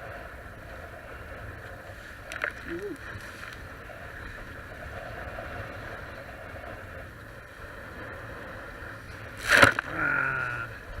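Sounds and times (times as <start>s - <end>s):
water rushing along hulls: 0.0s - 11.0s
wind rumble on microphone: 0.0s - 11.0s.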